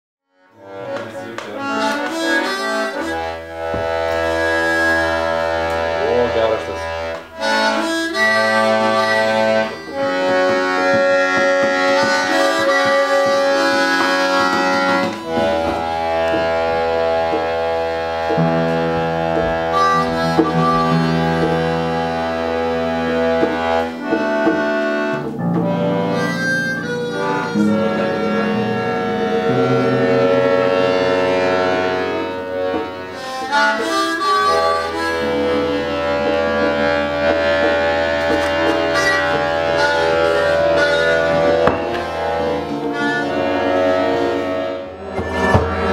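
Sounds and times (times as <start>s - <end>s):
accordion: 0.3s - 45.9s
harmonica: 0.4s - 45.9s.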